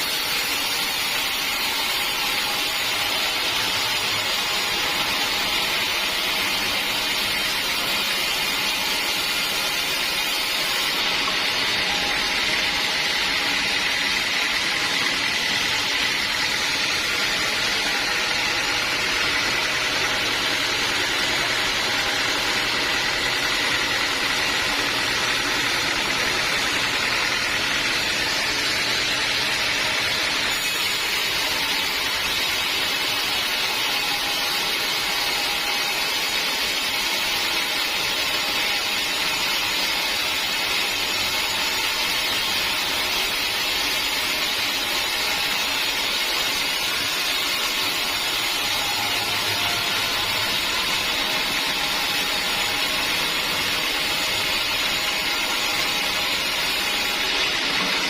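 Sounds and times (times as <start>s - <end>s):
sawmill machine hissing: 0.0s - 58.0s.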